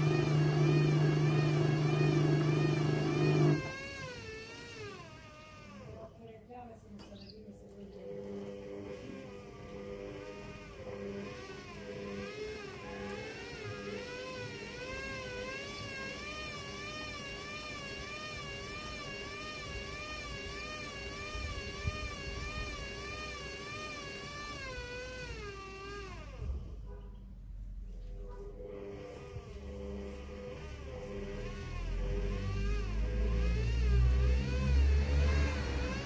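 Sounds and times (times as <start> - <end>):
washing machine drum motor whining: 0.0 - 6.0, 8.1 - 27.0, 28.5 - 36.0.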